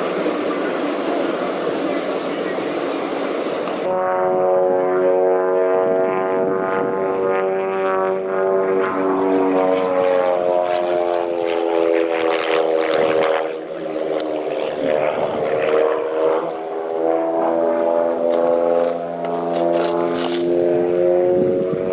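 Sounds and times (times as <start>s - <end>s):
propeller aircraft flying by: 0.0s - 21.9s.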